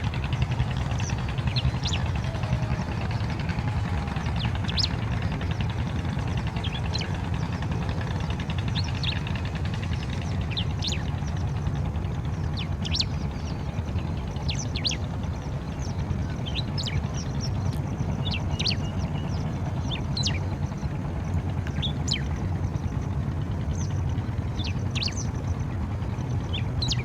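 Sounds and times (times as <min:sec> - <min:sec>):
bird chirping: 0:00.0 - 0:21.0, 0:21.7 - 0:27.0
steady low rumble: 0:00.0 - 0:27.0.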